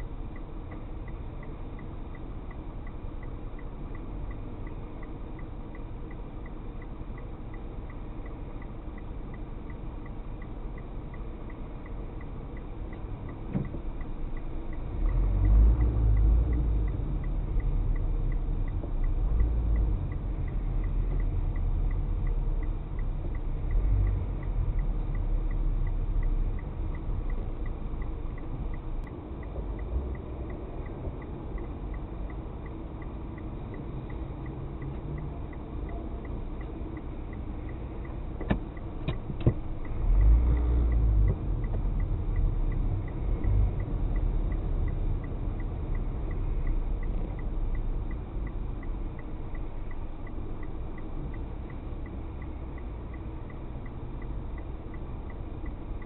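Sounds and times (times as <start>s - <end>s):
engine and tyre rumble: 0.0s - 56.0s
faint even ticking: 0.0s - 56.0s.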